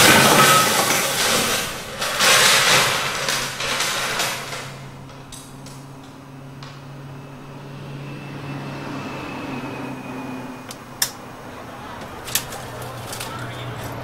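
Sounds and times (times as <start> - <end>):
background noise: 0.0 - 14.0
steady low hum: 0.1 - 14.0.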